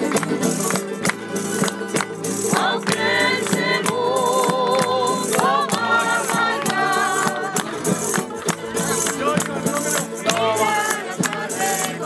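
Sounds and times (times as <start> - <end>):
instrumental accompaniment: 0.0 - 12.0
shaken percussion beat: 0.0 - 12.0
person singing with vibrato: 1.4 - 9.3, 10.1 - 12.0.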